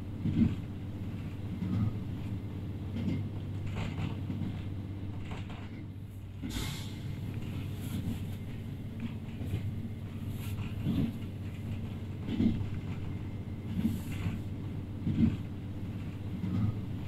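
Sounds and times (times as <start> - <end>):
railcar interior rumble: 0.0 - 17.0.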